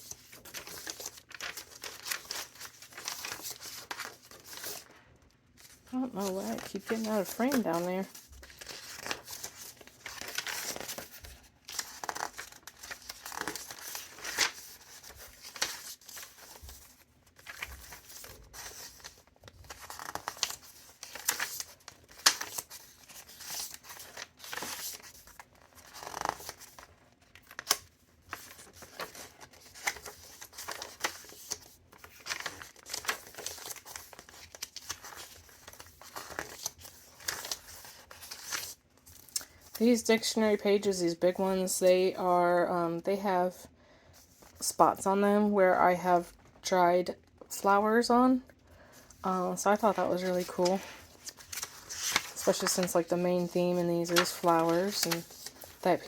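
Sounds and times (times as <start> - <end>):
paper pages turning: 0.0 - 39.8, 49.0 - 56.0.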